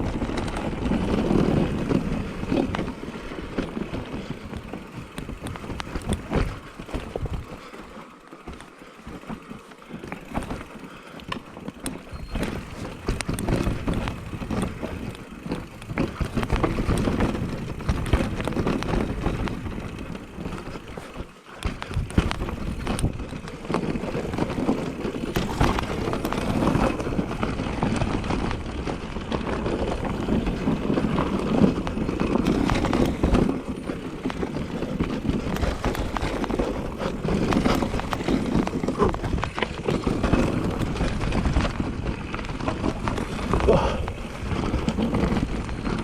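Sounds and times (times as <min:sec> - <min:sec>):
bike knocking and rattling: 0:00.0 - 0:46.0
tyres rumbling over dirt and rocks: 0:00.0 - 0:46.0.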